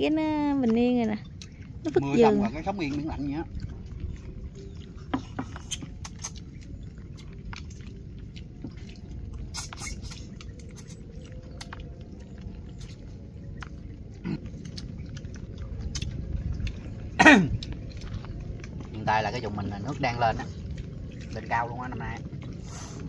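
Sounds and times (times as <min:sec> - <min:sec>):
people chewing: 0:00.0 - 0:23.0
steady low rumble: 0:00.0 - 0:23.0.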